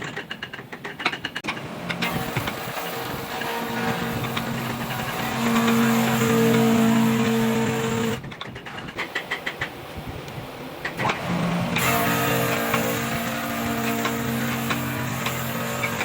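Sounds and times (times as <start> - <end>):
machine clicking: 0.0 - 16.0
woodworking machine motor humming: 1.4 - 8.3, 9.1 - 16.0.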